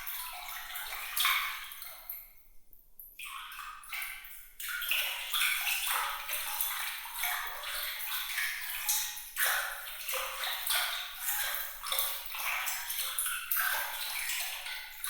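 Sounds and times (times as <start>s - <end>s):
small splashes and trickling drops: 0.0s - 2.4s, 3.0s - 15.0s.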